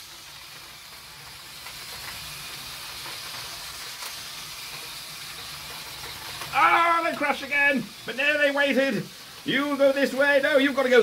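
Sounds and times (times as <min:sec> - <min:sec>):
toy train motors whirring: 0:00.0 - 0:11.0.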